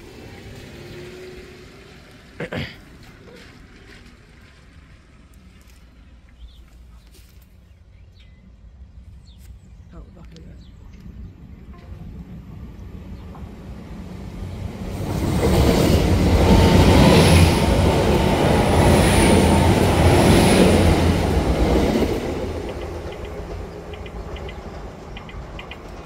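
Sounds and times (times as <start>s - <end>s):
passenger train passing: 0.0s - 6.7s, 9.9s - 26.0s.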